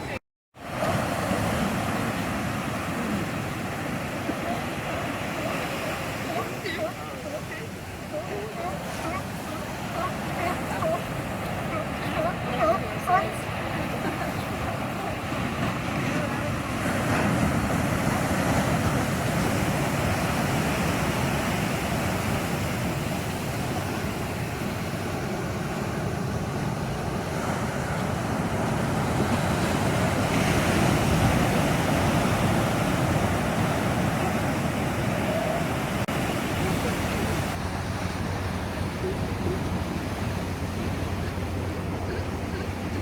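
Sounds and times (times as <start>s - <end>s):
ocean surf washing in: 0.0s - 43.0s
wind buffeting microphone: 0.8s - 43.0s.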